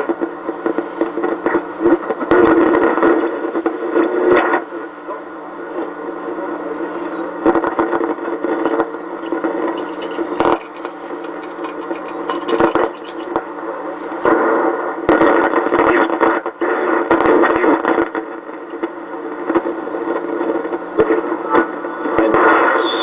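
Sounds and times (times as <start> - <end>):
noisy radio broadcast: 0.0 - 23.0
radio crackles: 0.0 - 23.0.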